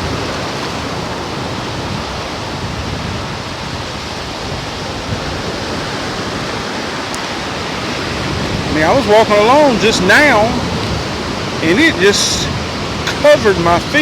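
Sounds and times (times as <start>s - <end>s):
ocean waves rushing: 0.0s - 14.0s.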